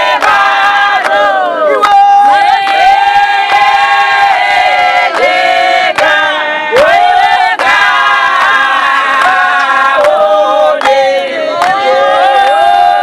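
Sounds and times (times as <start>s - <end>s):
hand claps: 0.0s - 3.6s, 5.1s - 13.0s
women's choir singing: 0.0s - 13.0s.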